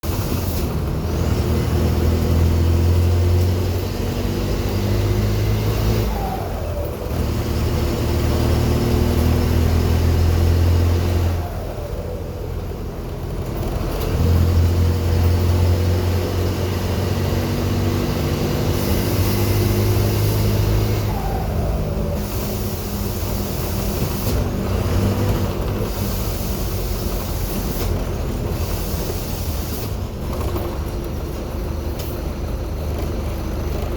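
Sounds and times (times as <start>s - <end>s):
diesel bus engine running at raised revs: 0.0s - 33.9s.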